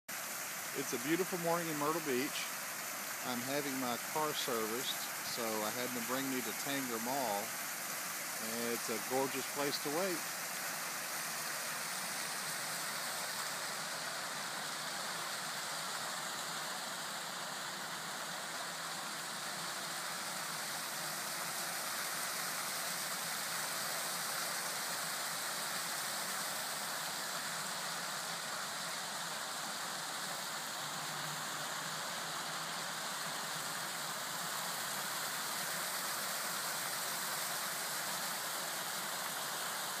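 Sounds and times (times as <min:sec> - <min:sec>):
fountain water splashing: 0:00.1 - 0:40.0.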